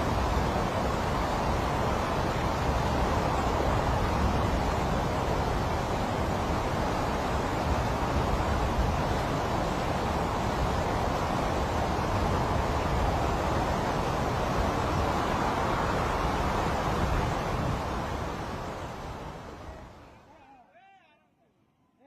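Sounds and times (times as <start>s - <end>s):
fast-flowing river rushing: 0.0s - 20.3s.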